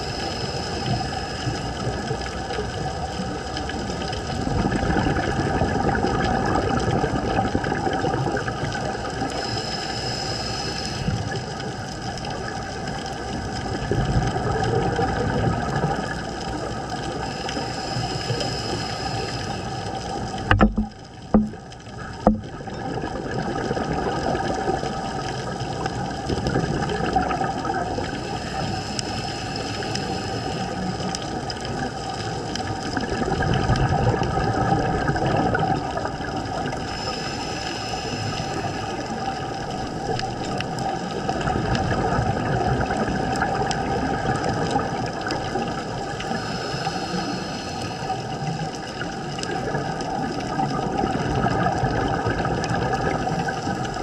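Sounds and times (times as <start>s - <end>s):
underwater rush of water and bubbles: 0.0s - 54.0s.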